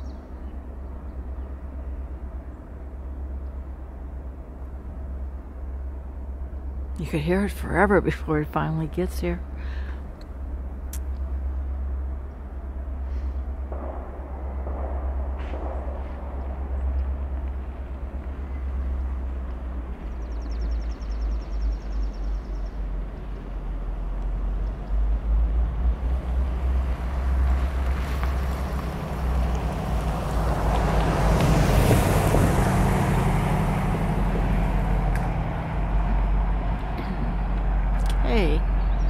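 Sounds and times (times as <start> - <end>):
locomotive engine rumble: 0.0 - 39.0
wind buffeting microphone: 0.0 - 39.0.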